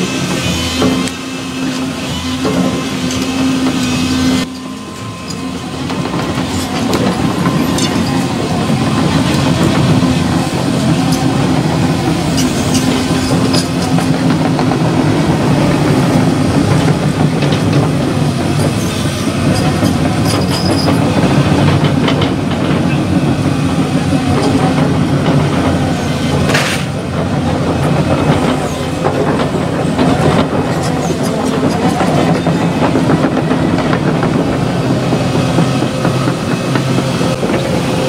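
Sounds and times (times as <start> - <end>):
excavator diesel engine running: 0.0 - 38.0
steel tracks clanking and squeaking: 0.0 - 38.0.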